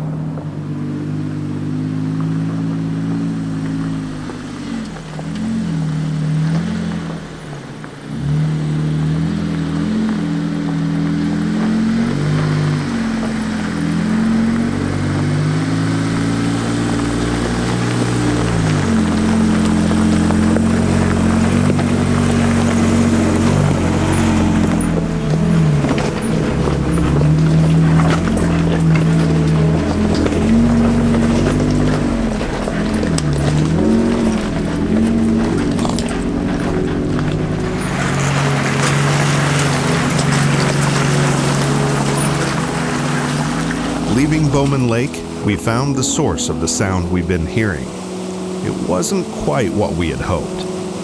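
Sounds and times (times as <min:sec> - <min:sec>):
tyres on gravel: 0:00.0 - 0:51.0
vehicle engine humming: 0:00.0 - 0:51.0.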